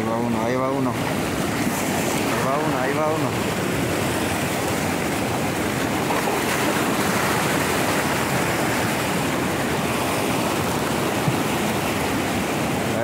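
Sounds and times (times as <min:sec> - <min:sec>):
sea waves breaking on rocks: 0:00.1 - 0:13.0.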